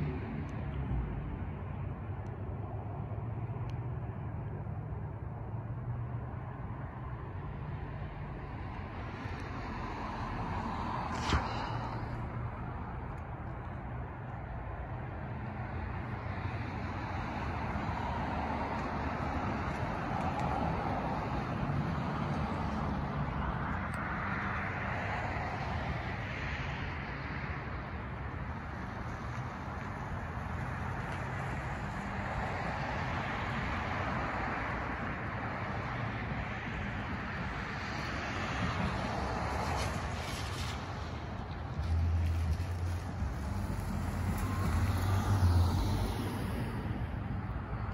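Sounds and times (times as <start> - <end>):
cars driving past: 0.0 - 47.9.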